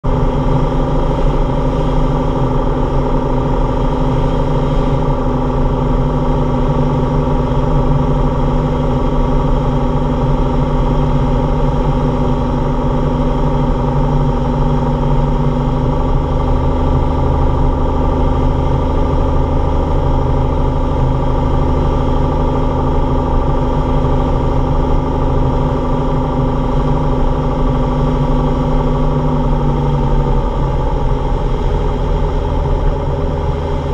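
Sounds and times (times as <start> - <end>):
light aircraft engine droning: 0.0 - 33.9.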